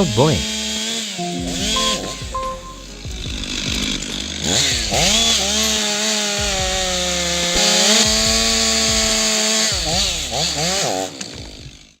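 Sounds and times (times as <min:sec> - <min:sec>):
chainsaw running and revving: 0:00.0 - 0:01.2, 0:03.4 - 0:12.0.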